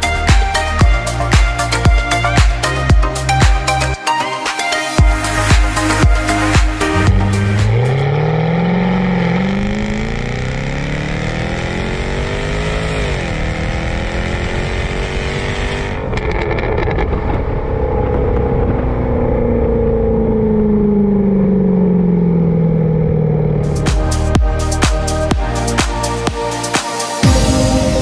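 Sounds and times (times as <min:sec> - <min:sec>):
car engine accelerating: 0:05.0 - 0:28.0.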